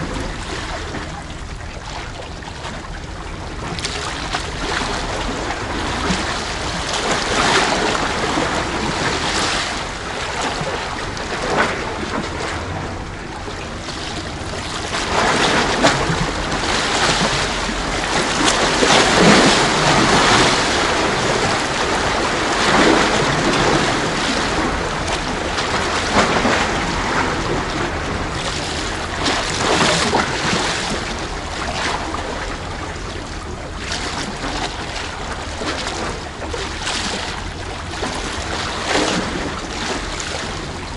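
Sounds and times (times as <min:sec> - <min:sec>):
sea water sloshing among blocks: 0:00.0 - 0:40.9
wind rumbling on microphone: 0:00.0 - 0:40.9.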